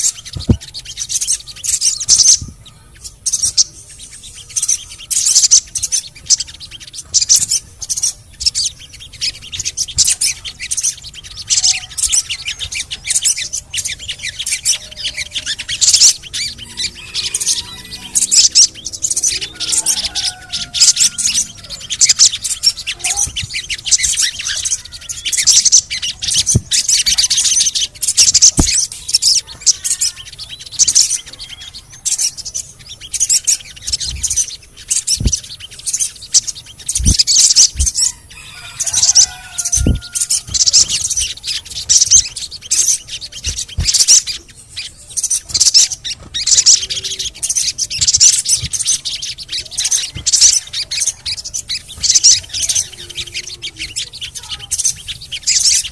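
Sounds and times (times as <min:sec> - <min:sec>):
low whistled bird notes: 0:00.0 - 0:55.9
sunbirds chirping and twittering: 0:00.0 - 0:55.9.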